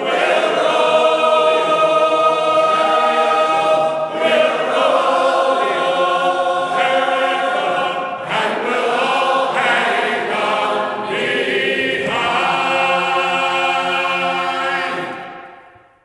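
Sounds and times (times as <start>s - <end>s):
choir singing a sea shanty: 0.0s - 16.0s.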